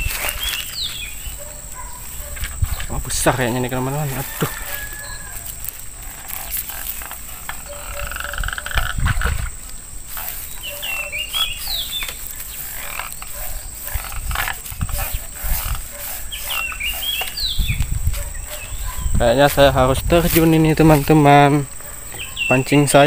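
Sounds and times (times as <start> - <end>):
chirping animal call: 0.0 - 9.4, 10.1 - 19.4
handling and rustling: 0.0 - 22.6.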